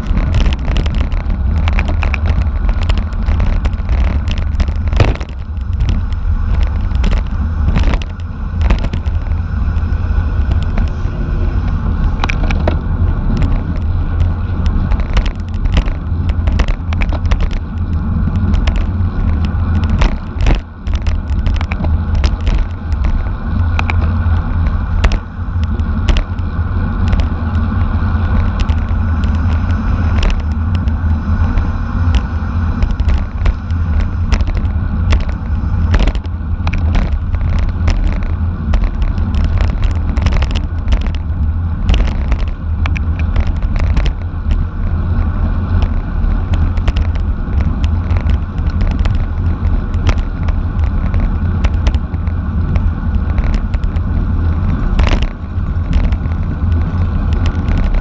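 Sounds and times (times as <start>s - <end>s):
bicycle clicks and rattles: 0.0s - 58.0s
bicycle road rumble: 0.0s - 58.0s
wind buffeting microphone: 0.0s - 58.0s.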